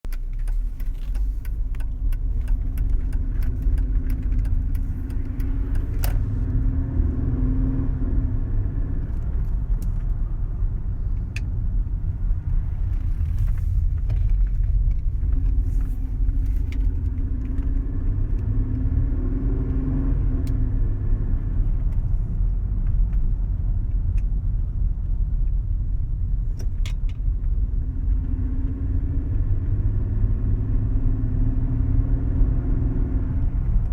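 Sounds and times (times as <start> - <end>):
car engine grumbling: 0.0 - 33.9.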